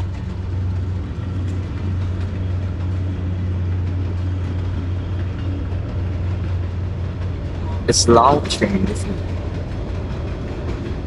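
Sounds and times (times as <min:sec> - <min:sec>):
train rolling past: 0:00.0 - 0:11.0.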